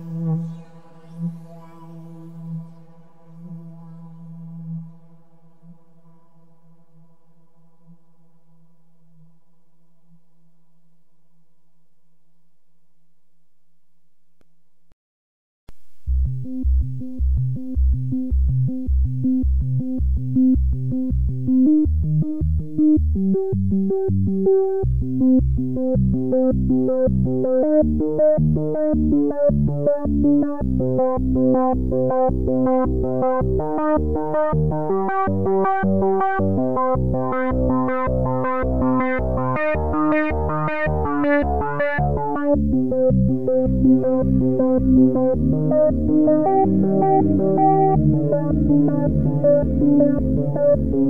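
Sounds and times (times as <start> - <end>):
electronic music with synthesizer: 0.0 - 6.0, 16.0 - 51.0.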